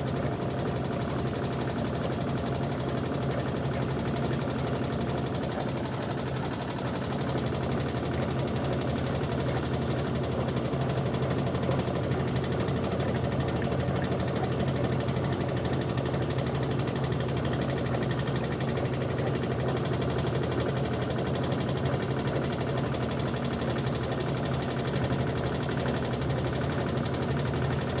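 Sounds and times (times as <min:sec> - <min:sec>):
washing machine motor hum: 0:00.1 - 0:28.0.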